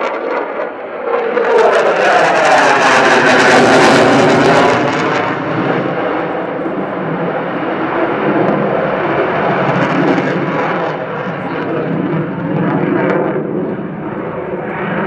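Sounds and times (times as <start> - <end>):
fighter jet roaring: 0.0 - 15.0.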